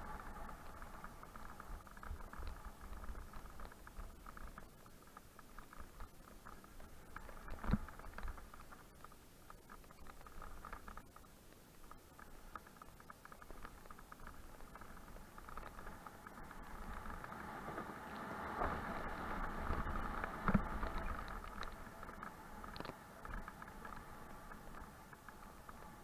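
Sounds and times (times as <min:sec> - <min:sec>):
bike tyres rumbling over dirt: 0:00.0 - 0:11.2, 0:11.8 - 0:26.0
bike rattling: 0:00.0 - 0:26.0.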